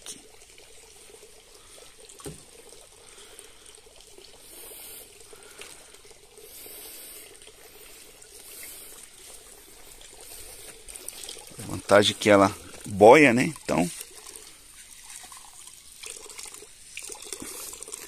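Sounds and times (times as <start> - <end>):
water splashing: 0.0 - 18.0
water trickling and dripping: 0.0 - 18.0.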